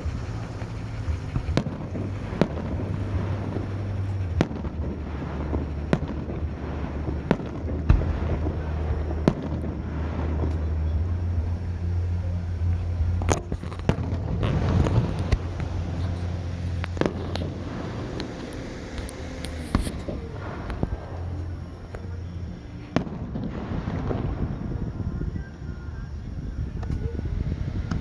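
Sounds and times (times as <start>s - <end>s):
fireworks bangs: 0.0s - 28.0s
steady low hum: 0.0s - 28.0s.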